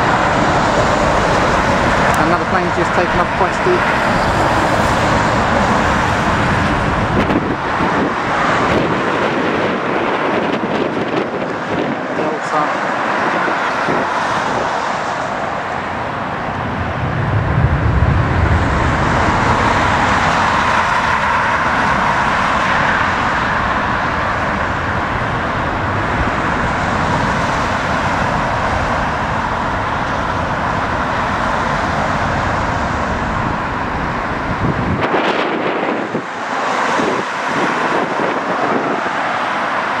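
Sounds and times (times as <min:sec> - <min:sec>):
deep jet rumble: 0:00.0 - 0:39.4
jet engine roar: 0:00.0 - 0:40.0.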